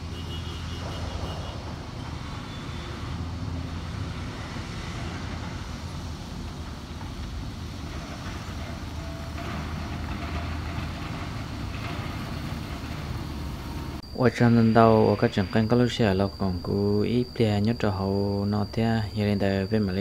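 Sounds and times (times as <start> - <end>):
trucks and machinery rumbling: 0.0 - 20.0.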